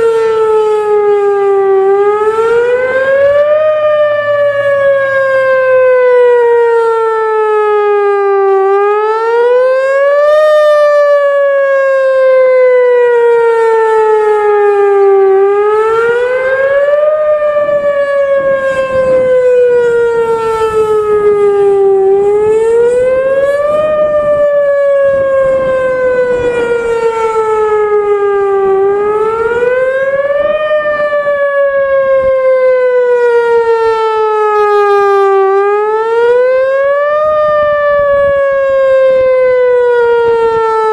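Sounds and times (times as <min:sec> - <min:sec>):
outdoor warning siren wailing: 0:00.0 - 0:40.9.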